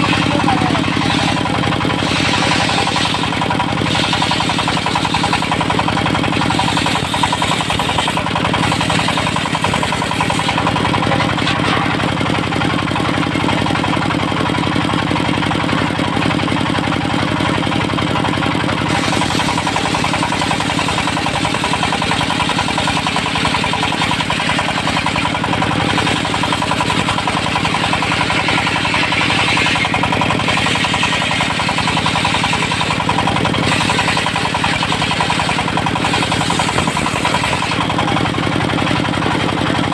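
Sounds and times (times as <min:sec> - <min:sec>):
circular sawmill running: 0:00.0 - 0:39.9.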